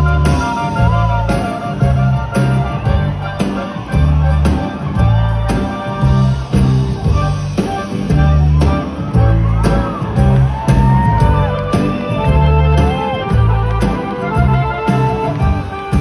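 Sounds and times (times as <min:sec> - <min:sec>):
live band playing over pa: 0:00.0 - 0:16.0.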